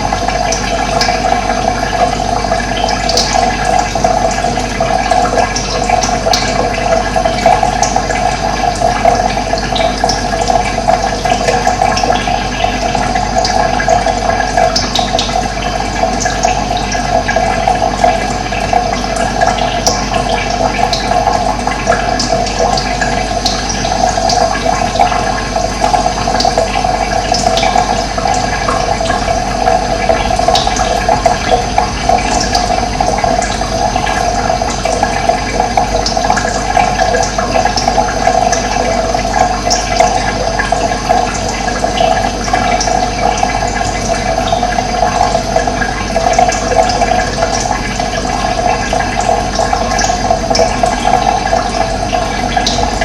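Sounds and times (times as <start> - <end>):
running water flowing: 0.0 - 53.0.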